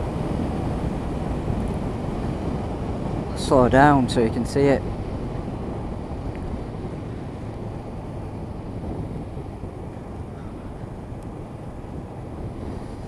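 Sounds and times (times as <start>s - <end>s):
wind rush: 0.0s - 13.0s.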